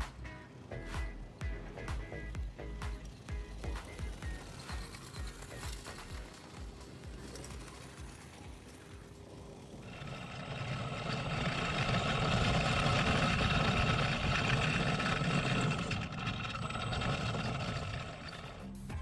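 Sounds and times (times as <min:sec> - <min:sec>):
electric motor whining: 0:00.2 - 0:19.0.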